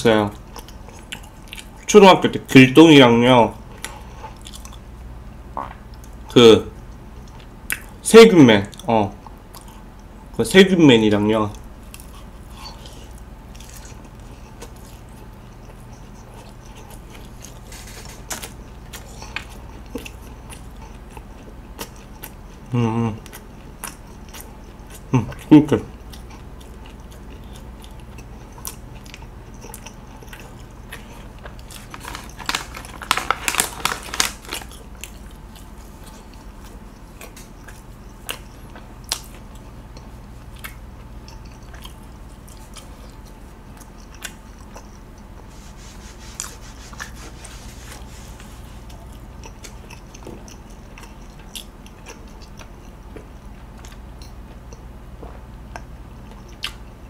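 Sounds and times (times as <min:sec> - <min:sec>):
low steady hum: 0:00.0 - 0:57.0
close chewing with crackles: 0:00.3 - 0:02.0, 0:03.6 - 0:08.0, 0:08.6 - 0:10.4, 0:11.5 - 0:57.0.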